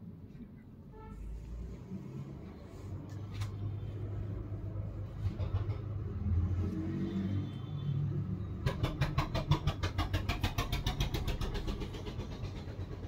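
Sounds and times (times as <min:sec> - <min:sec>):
engine rumbling: 0:00.1 - 0:13.0.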